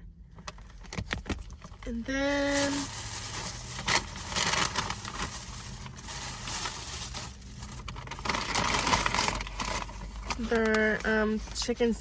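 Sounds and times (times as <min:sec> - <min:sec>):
paper packaging crinkling: 0:00.4 - 0:11.7.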